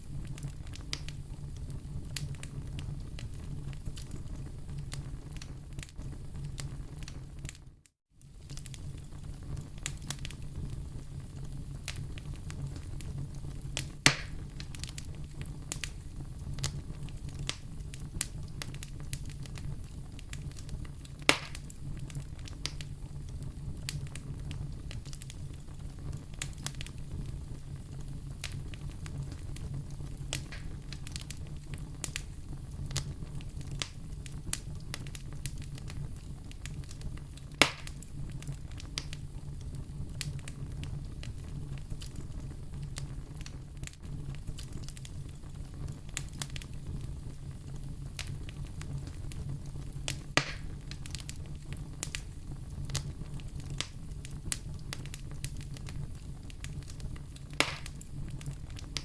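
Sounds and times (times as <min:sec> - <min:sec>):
loud fire pops: 0:00.0 - 0:07.6, 0:08.3 - 0:59.0
wood fire crackling: 0:00.0 - 0:59.0.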